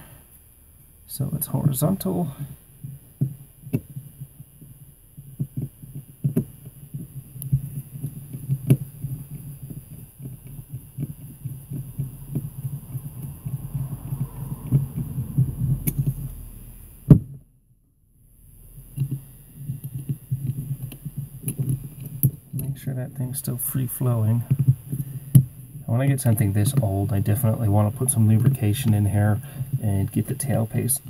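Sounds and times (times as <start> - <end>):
low handling rumble: 4.2 - 17.2, 18.2 - 31.0.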